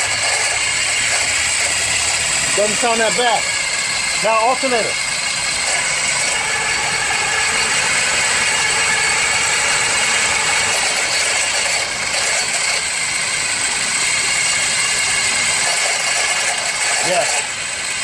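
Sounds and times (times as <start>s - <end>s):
alternator rattling and grinding: 0.0s - 18.0s
car engine idling: 0.0s - 18.0s
high whine: 0.0s - 18.0s.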